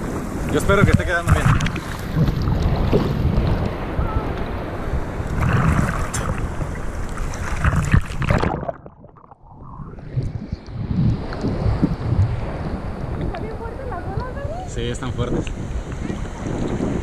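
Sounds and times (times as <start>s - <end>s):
surf splashing over camera: 0.0s - 17.0s.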